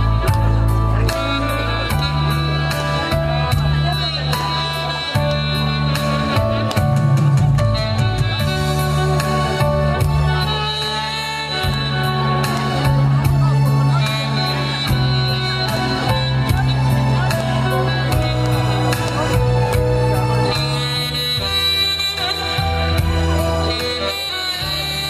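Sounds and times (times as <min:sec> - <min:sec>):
backing track drums and bass: 0:00.0 - 0:25.0
saxophone melody: 0:00.0 - 0:25.0.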